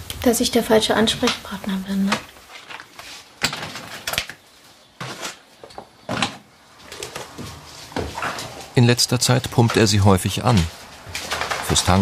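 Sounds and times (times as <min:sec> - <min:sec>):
packages rustling and clunking: 0:01.1 - 0:12.0.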